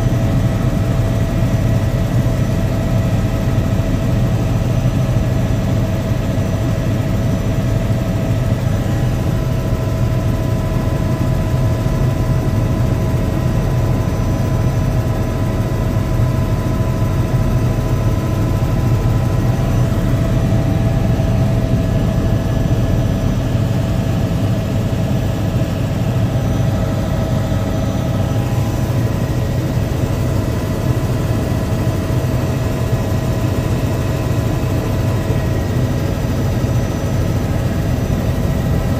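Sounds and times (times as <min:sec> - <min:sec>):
helicopter engine and rotors droning: 0:00.0 - 0:38.9.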